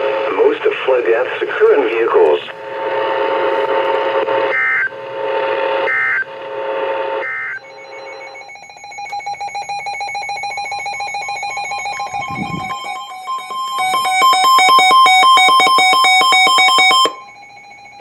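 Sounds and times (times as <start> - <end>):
pulsing electronic tones: 3.0 - 17.5.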